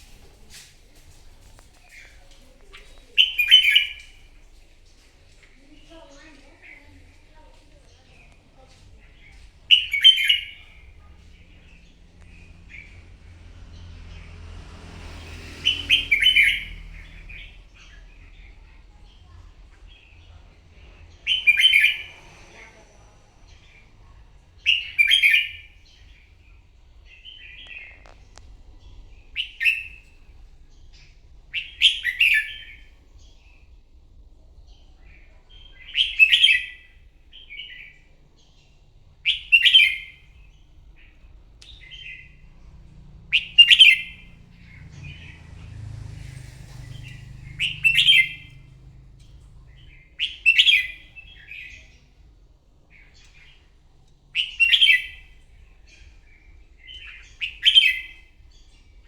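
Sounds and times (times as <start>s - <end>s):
bird singing warbled phrases: 1.8s - 4.5s, 5.5s - 14.5s, 15.3s - 33.8s, 34.6s - 59.0s.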